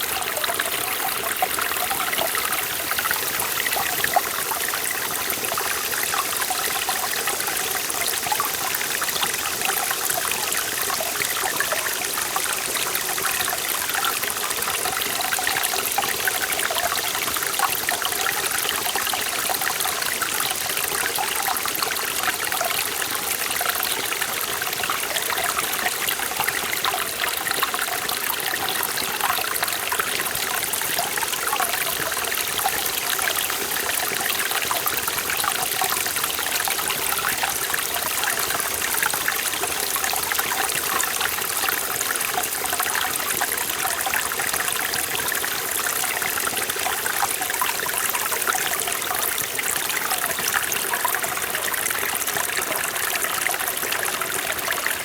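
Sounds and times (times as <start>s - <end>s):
stream water splashing over rocks: 0.0s - 55.0s.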